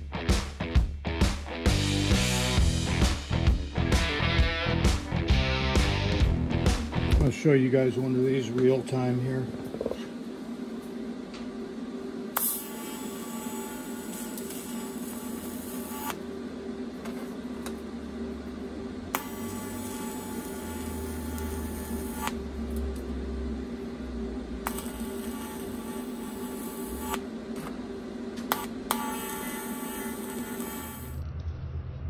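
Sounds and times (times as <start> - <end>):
steady hum: 1.8 - 32.0
welding arc buzzing: 5.3 - 31.2.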